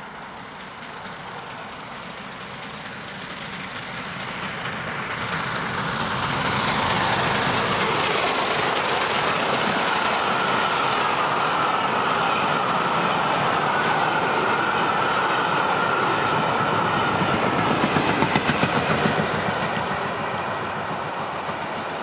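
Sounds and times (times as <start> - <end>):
coaches rolling on rails: 0.0 - 22.0
steam locomotive passing: 0.0 - 22.0.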